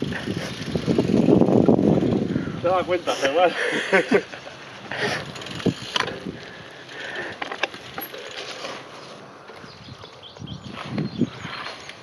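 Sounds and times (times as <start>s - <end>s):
bike chain clicks and rattles: 0.0s - 12.0s
bike tyres rolling on gravel: 0.0s - 12.0s.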